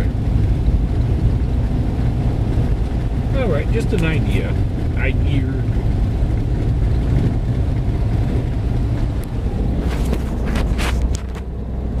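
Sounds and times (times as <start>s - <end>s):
engine and tyres rumbling on snow: 0.0s - 12.0s.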